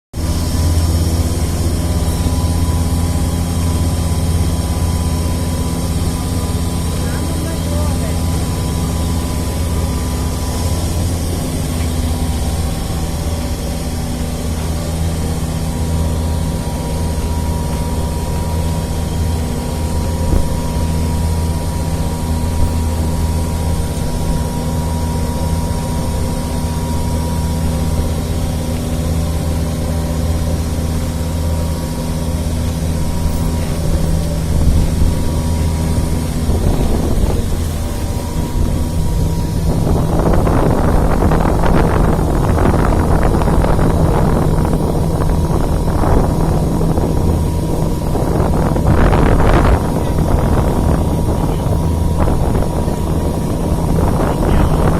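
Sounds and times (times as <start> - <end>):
engine humming steadily: 0.1 - 54.9.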